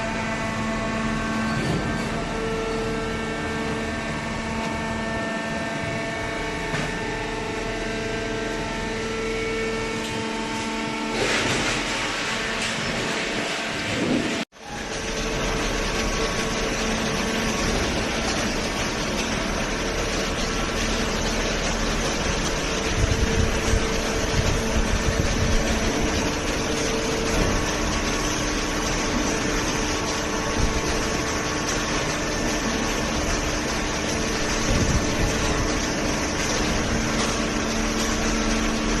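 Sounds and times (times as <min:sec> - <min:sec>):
baler machine running: 0:00.0 - 0:39.0
hydraulic pump hum: 0:00.0 - 0:39.0.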